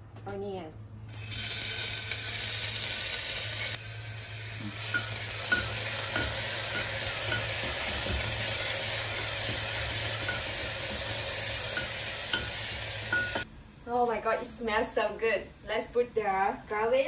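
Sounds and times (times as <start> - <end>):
onion sizzling in oil: 1.1 - 17.0.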